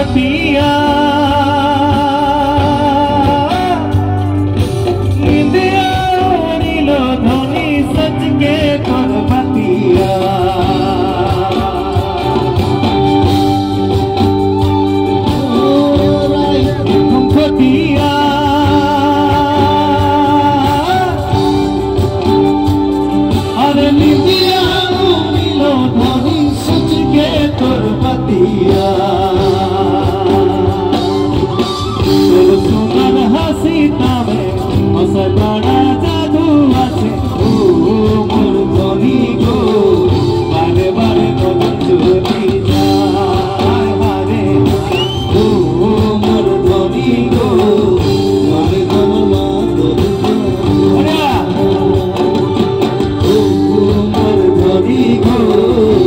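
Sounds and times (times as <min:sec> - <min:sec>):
live band music: 0:00.0 - 0:56.0
person singing: 0:00.0 - 0:56.0.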